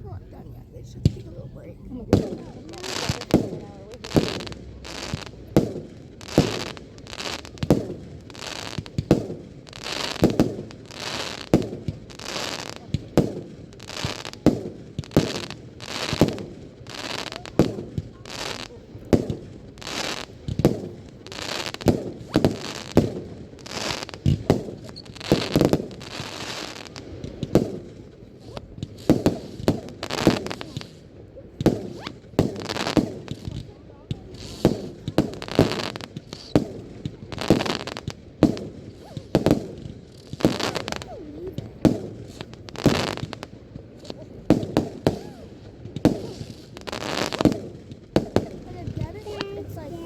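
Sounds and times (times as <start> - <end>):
fireworks booming: 0.0 - 50.0.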